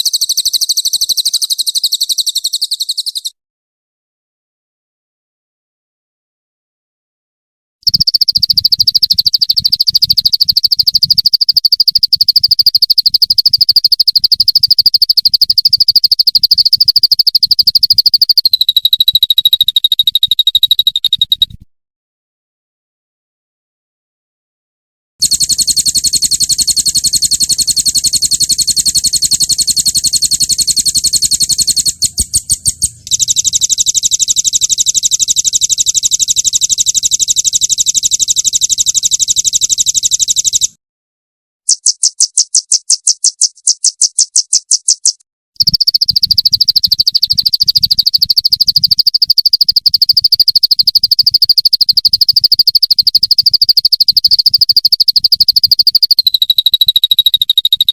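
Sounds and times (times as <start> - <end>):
songbird rattling trills: 0.0 - 3.3, 7.8 - 21.5, 25.2 - 40.7, 41.7 - 57.9.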